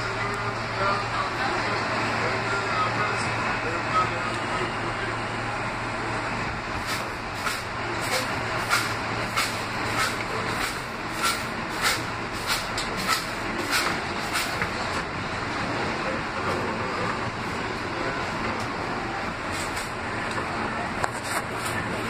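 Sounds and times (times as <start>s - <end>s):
subway car rumbling on track: 0.0s - 22.0s.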